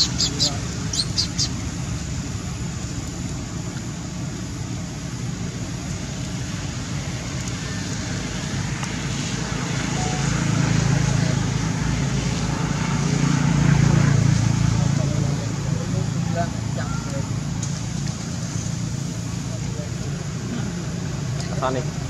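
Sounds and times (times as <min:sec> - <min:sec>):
vehicle engine hum: 0:00.0 - 0:22.0.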